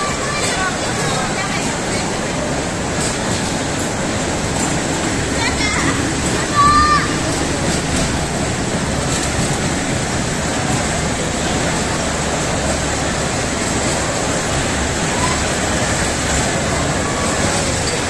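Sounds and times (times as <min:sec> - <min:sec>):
indoor play area din: 0:00.0 - 0:18.0.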